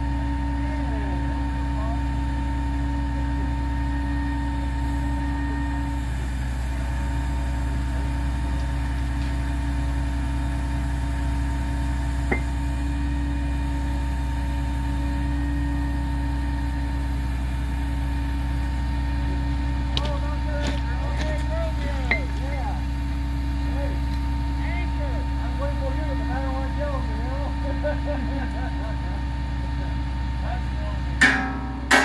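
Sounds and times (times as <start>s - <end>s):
steady whine: 0.0s - 32.0s
truck engine running: 0.0s - 32.0s.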